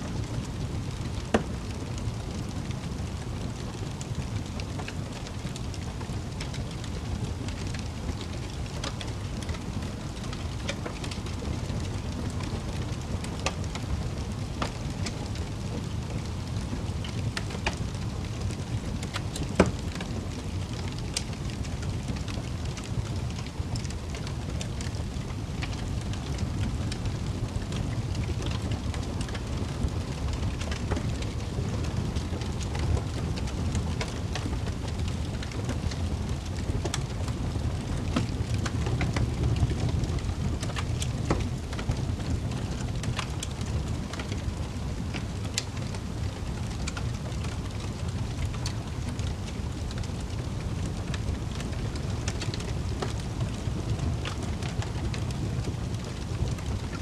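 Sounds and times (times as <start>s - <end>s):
flames rumbling: 0.0s - 57.0s
wood fire crackling: 0.0s - 57.0s
fire pops and snaps: 0.2s - 57.0s.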